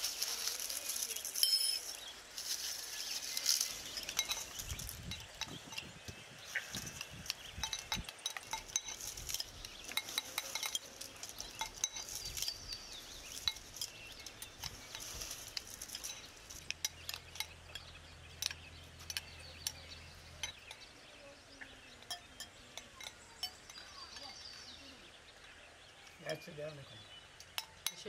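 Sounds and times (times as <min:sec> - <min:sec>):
metal spoons clinking on glass bowls: 0:00.1 - 0:24.7, 0:27.4 - 0:28.0.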